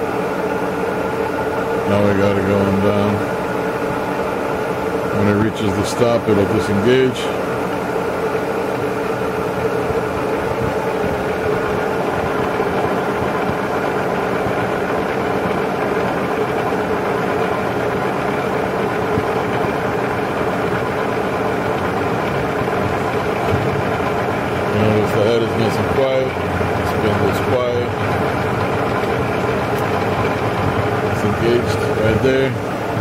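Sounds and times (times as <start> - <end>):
milling machine humming: 0.0 - 33.0.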